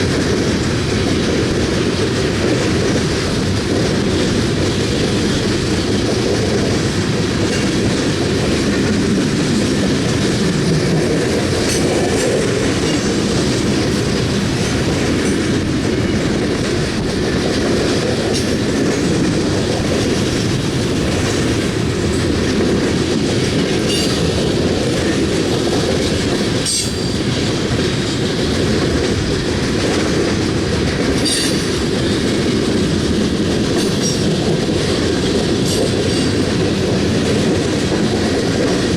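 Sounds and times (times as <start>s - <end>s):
train wheels clacking over rail joints: 0.0s - 38.9s.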